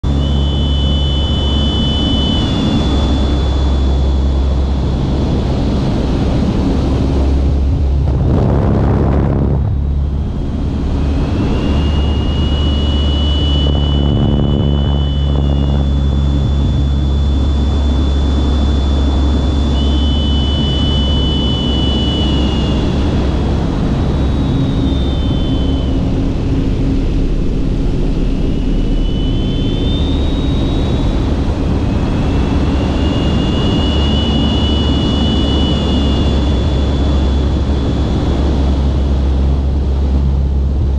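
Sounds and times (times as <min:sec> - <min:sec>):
propeller airplane engine: 0:00.0 - 0:40.9
rush of wind: 0:00.0 - 0:40.9
thin high whine: 0:00.0 - 0:40.9.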